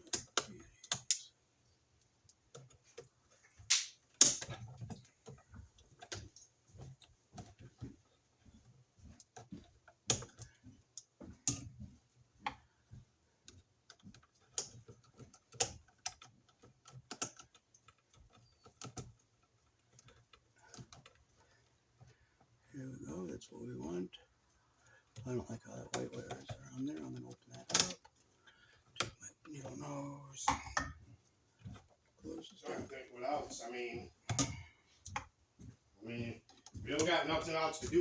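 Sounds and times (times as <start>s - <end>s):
hand tools clicking and tapping: 0.0s - 23.2s, 23.8s - 38.0s.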